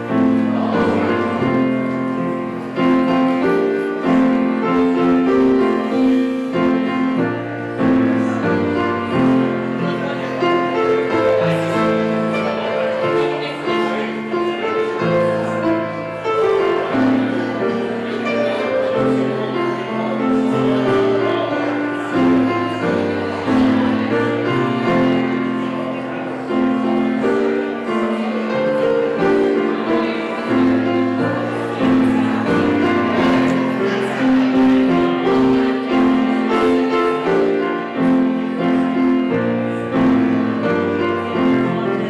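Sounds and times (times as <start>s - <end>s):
grand piano playing chords: 0.0s - 42.0s.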